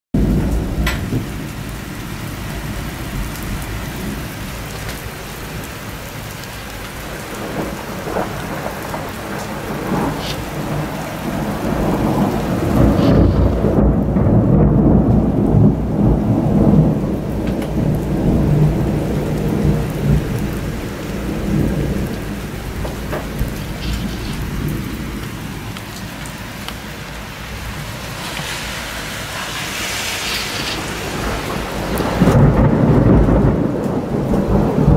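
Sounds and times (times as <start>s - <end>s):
steady rain falling: 0.2s - 34.9s
thunder rumbling: 0.2s - 34.9s.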